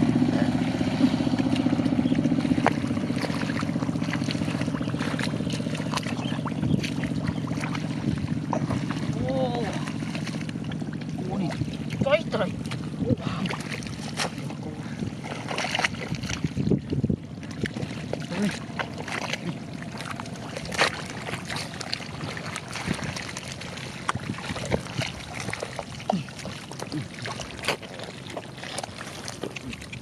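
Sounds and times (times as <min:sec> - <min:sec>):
water and mud splashing: 0:00.0 - 0:30.0.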